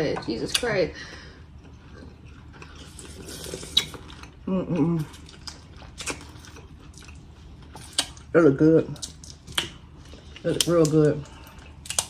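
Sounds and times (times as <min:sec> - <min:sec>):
wet eating mouth sounds: 0:01.5 - 0:12.0.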